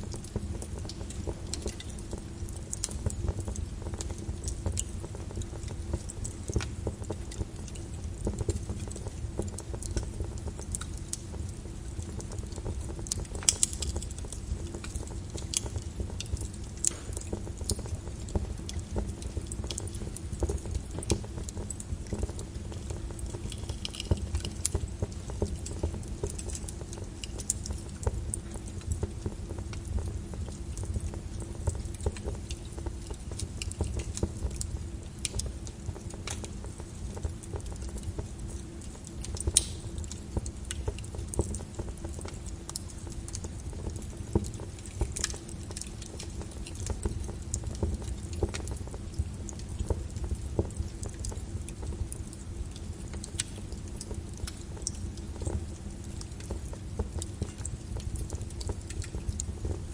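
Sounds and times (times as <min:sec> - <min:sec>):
lava crackling with sharp clicks: 0:00.0 - 0:59.9.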